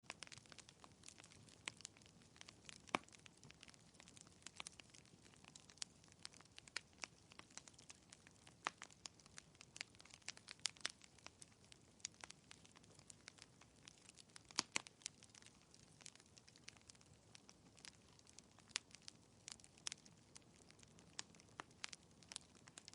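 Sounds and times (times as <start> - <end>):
fire crackling and popping: 0.0 - 22.9.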